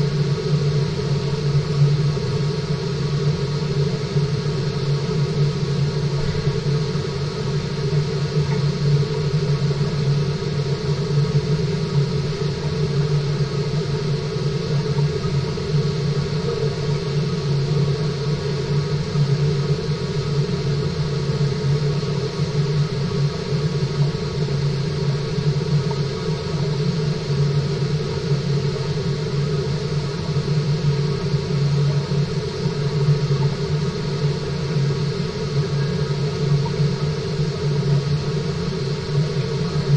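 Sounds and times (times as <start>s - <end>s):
water pump hum and rumble: 0.0s - 39.9s.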